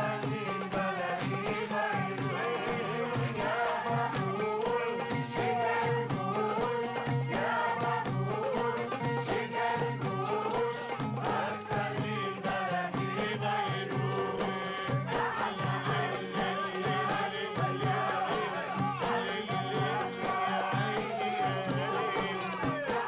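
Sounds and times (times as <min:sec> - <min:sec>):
folk dance music with singing: 0:00.0 - 0:23.0.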